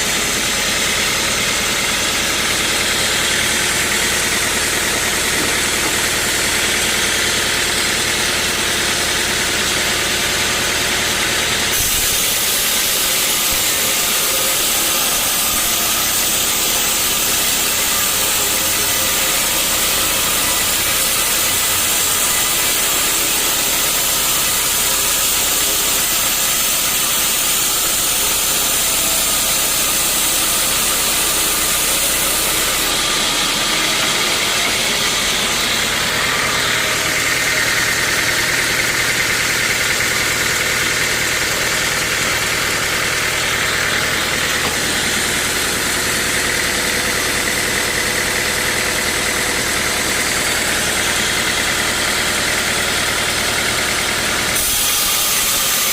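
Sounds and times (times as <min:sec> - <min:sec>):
sawmill machinery engine drone: 0:00.0 - 0:55.9
steady machine whine: 0:00.0 - 0:55.9.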